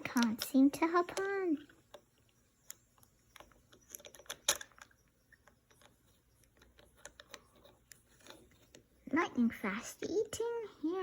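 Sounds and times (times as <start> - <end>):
plastic toys clicking and tapping: 0.0 - 8.9.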